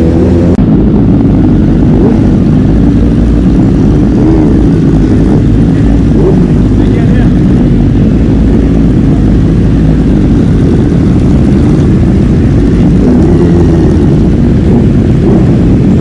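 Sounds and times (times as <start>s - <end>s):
motorcycle engine rumble: 0.0s - 16.0s
road noise: 0.0s - 16.0s.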